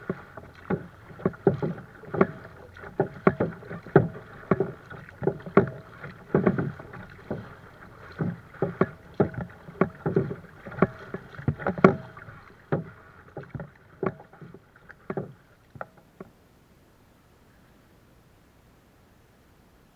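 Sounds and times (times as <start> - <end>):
water splashing against kayak: 0.0 - 17.0.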